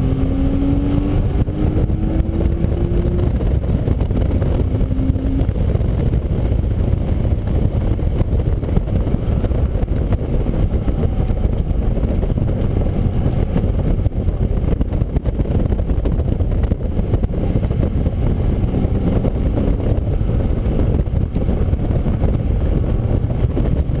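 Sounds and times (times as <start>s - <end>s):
race car engine and road rumble: 0.0s - 24.0s.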